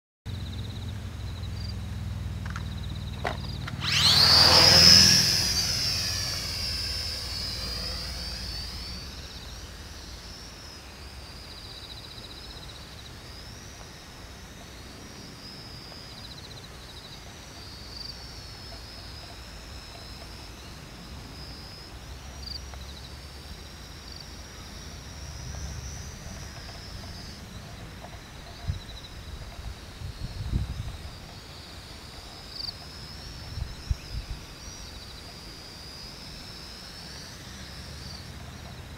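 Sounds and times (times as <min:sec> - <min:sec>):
drone propellers whining: 0:00.3 - 0:38.9.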